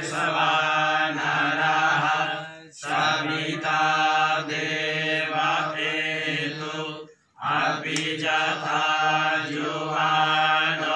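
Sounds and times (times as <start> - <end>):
men chanting in unison: 0.0 - 10.9.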